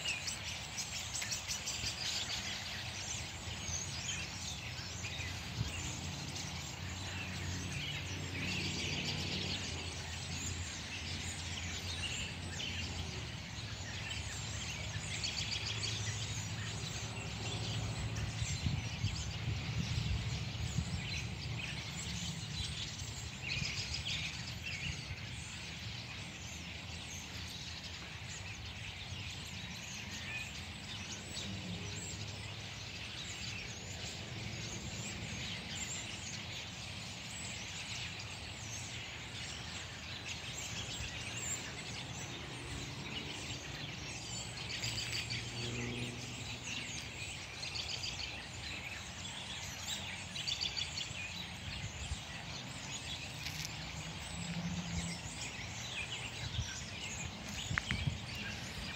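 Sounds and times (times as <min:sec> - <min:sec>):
flock of birds chirping: 0:00.0 - 0:58.9.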